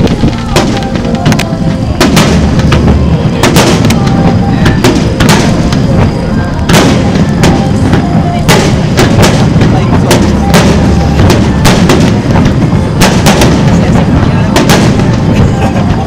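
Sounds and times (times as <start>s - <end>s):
firework shells bursting: 0.0s - 16.0s
low rumble: 0.0s - 16.0s.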